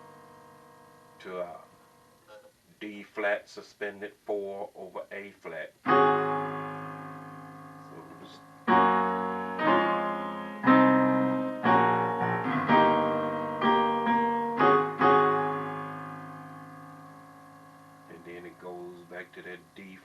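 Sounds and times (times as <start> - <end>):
piano chords: 0.0 - 2.0, 5.8 - 20.0.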